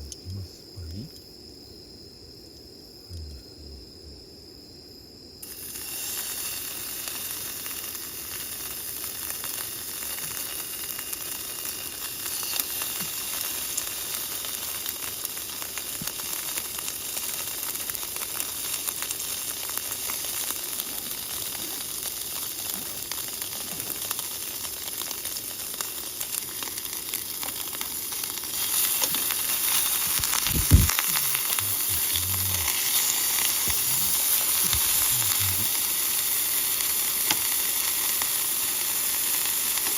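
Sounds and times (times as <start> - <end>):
beef sizzling over campfire: 5.3 - 39.9.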